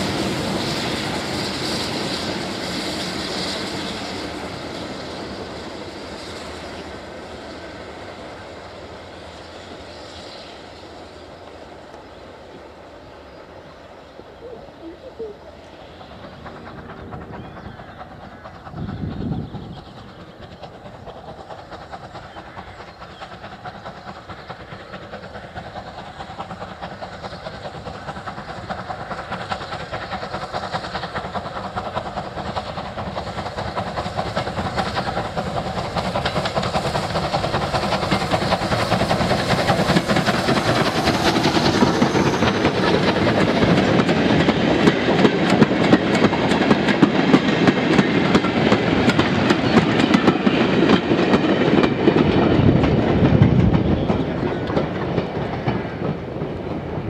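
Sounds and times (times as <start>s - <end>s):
steam locomotive passing: 0.0s - 57.0s.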